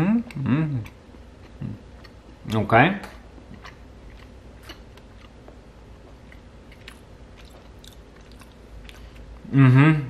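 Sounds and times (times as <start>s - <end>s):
low steady hum: 0.0s - 10.0s
person chewing chocolate: 0.2s - 9.4s.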